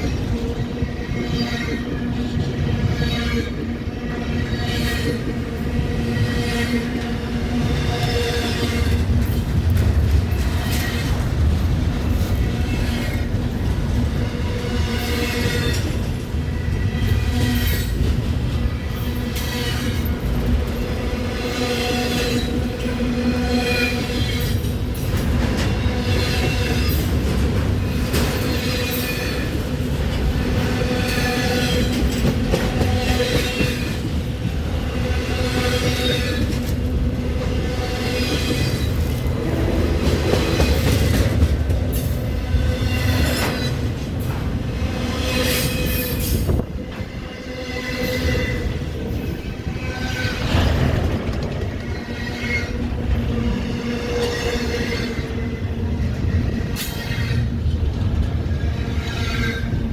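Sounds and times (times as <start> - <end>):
freight train rumbling: 0.0 - 59.9
train wheels squealing and clicking: 0.0 - 59.9.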